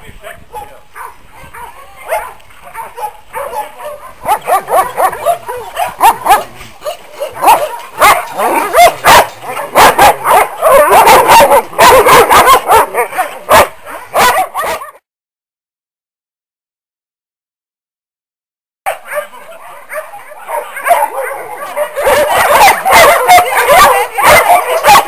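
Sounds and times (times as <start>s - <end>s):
dogs barking and yelping: 0.2s - 15.0s, 18.9s - 25.0s.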